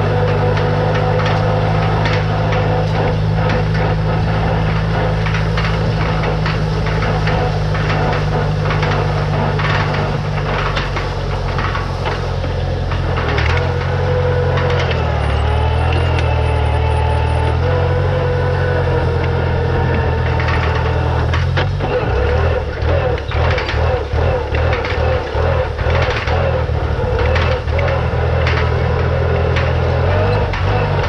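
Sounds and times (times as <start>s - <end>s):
hay rake clattering: 0.0s - 31.0s
tractor engine running: 0.0s - 31.0s.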